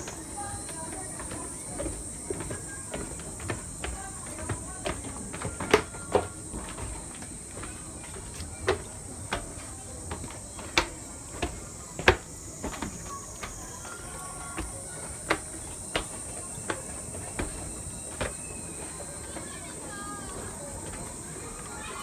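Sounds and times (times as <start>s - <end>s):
footsteps on wooden stairs: 0.0s - 21.2s.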